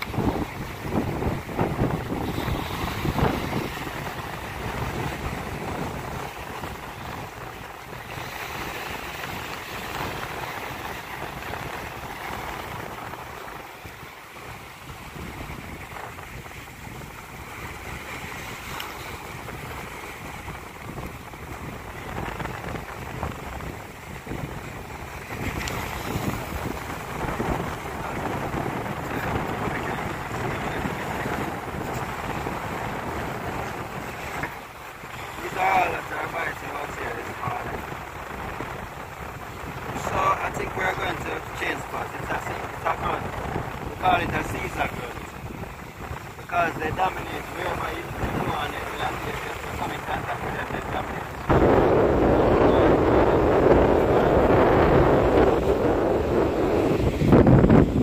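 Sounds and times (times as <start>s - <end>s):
sea waves: 0.0s - 58.0s
wind buffeting microphone: 0.0s - 58.0s.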